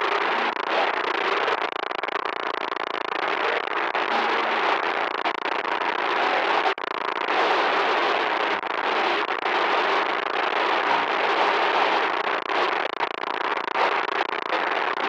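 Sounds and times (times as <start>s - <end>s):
loud crackling static hiss: 0.0s - 15.0s.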